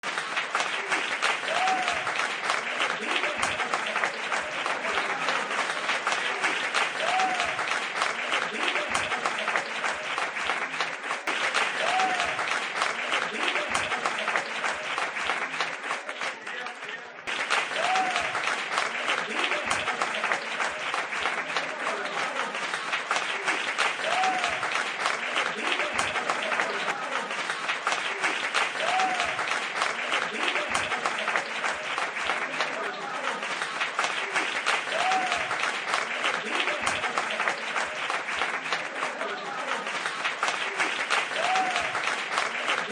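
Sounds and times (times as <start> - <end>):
crowd applauding: 0.0 - 42.9.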